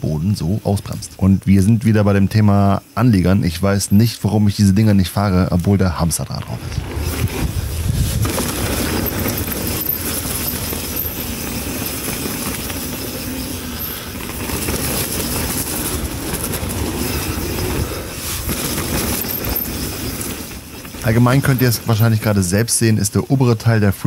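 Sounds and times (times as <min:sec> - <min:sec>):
mountain bike rattling on trail: 0:00.1 - 0:24.0.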